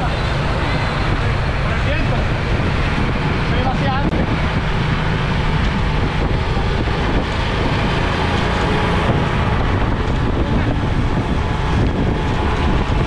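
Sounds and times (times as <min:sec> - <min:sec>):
heavy low rumble: 0:00.0 - 0:13.0
wind buffeting microphone: 0:00.0 - 0:13.0.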